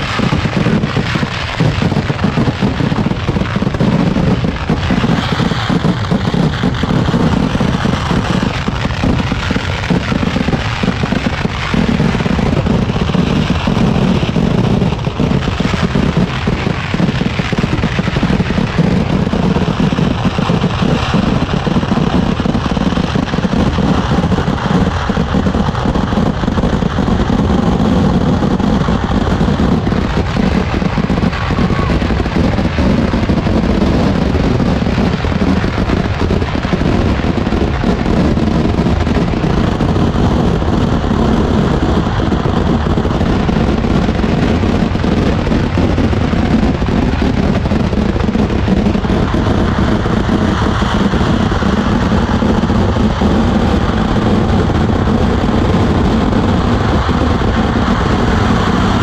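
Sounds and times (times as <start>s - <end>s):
fireworks barrage: 0.0s - 59.0s.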